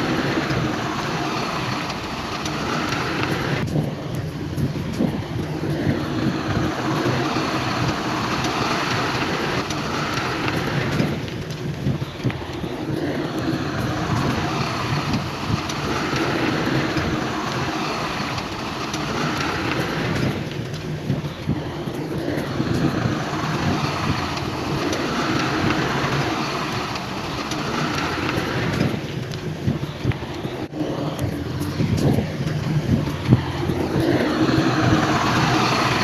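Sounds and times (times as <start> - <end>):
diesel earthmoving machinery running: 0.0 - 36.0.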